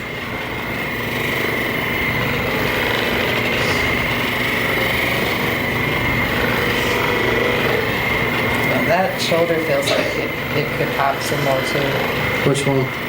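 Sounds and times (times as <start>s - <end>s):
massage gun buzzing with whine: 0.0s - 13.0s.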